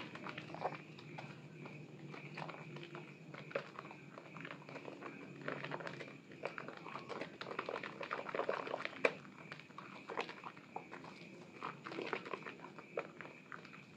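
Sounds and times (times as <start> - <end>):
wet soap squelches: 0.0 - 13.9.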